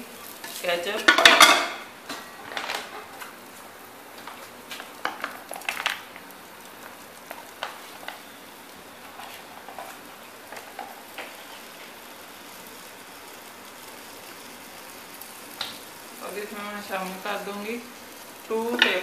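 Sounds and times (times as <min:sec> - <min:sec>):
chicken sizzling in a pot: 0:00.0 - 0:19.0
fat popping and crackling: 0:00.2 - 0:19.0.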